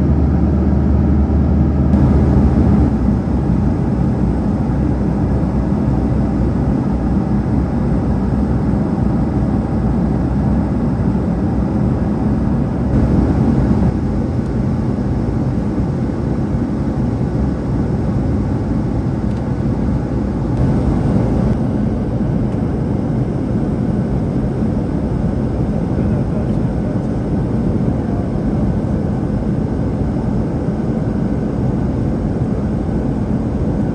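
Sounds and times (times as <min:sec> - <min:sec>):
airplane cabin engine rush: 0:00.0 - 0:33.9.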